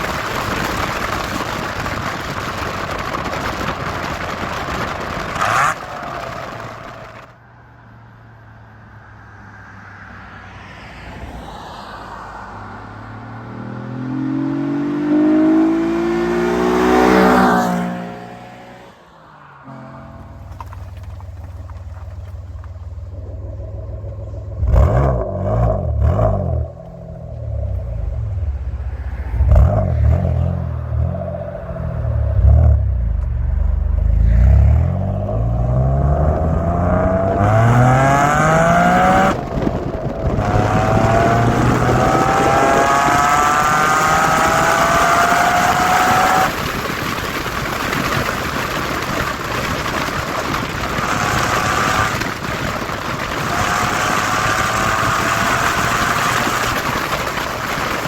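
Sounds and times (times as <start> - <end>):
car engine revving and accelerating: 0.0 - 7.3, 10.4 - 21.9, 23.0 - 47.9, 48.7 - 58.0.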